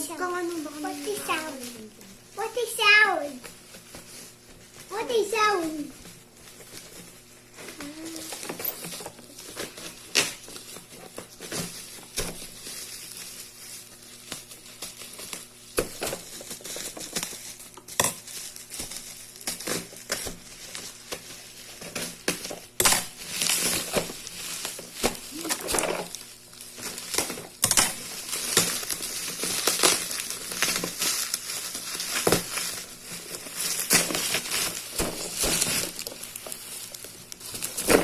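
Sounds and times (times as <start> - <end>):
packaging crinkling: 0.0 - 5.0, 5.6 - 38.0.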